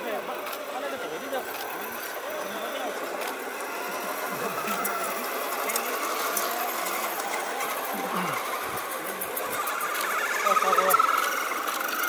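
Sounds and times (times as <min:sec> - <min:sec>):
toy car motor and gears whining: 0:00.0 - 0:12.0.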